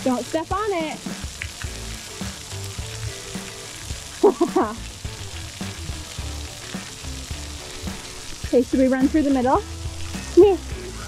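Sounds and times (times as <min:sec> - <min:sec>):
water jets spraying: 0:00.0 - 0:11.0.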